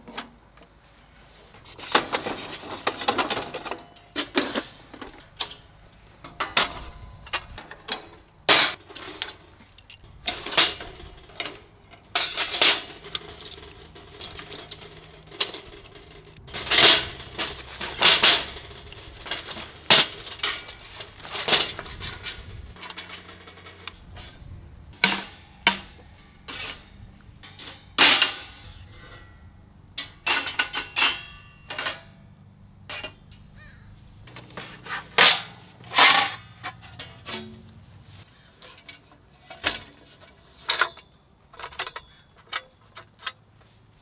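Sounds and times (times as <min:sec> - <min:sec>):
metal and wood parts clacking: 0:01.6 - 0:44.0.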